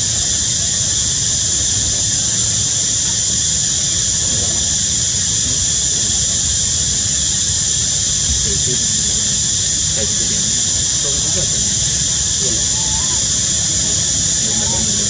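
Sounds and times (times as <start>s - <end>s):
high-pitched insect chorus: 0.0s - 15.0s
low steady rumble: 0.0s - 15.0s.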